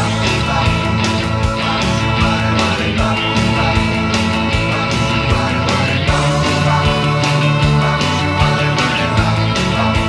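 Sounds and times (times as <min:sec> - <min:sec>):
instrumental rock music: 0:00.0 - 0:10.0.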